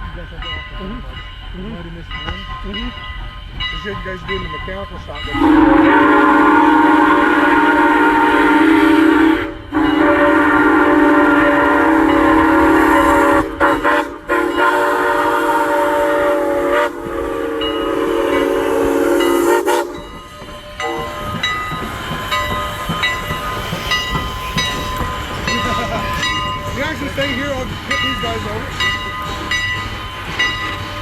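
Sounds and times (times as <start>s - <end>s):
railway running noise: 0.0s - 31.0s
steam locomotive whistle: 5.2s - 31.0s.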